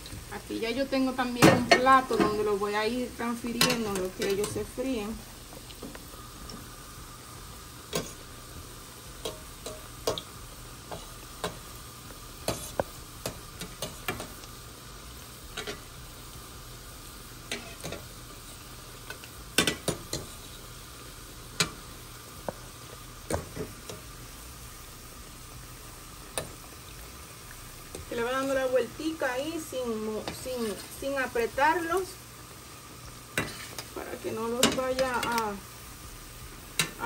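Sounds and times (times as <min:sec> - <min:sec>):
dough sizzling in hot oil: 0:00.0 - 0:37.0.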